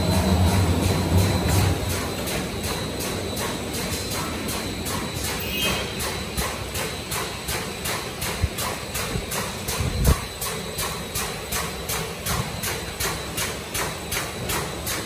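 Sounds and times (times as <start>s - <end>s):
machine clattering: 0.0s - 15.0s.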